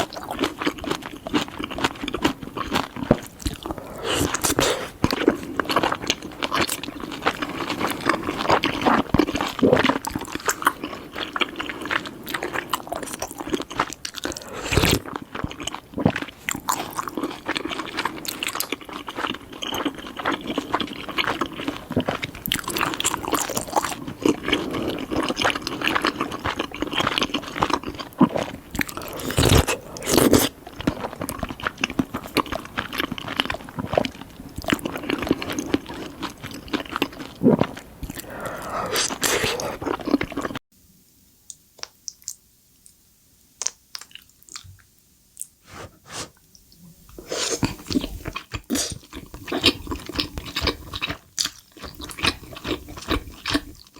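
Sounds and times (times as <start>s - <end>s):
wet sticky chewing: 0.0s - 40.6s, 47.2s - 53.9s.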